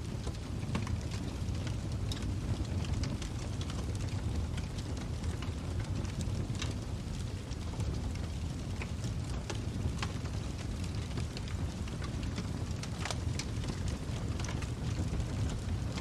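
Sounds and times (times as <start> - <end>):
fire crackles and pops: 0.0 - 16.0
low rush of flames: 0.0 - 16.0.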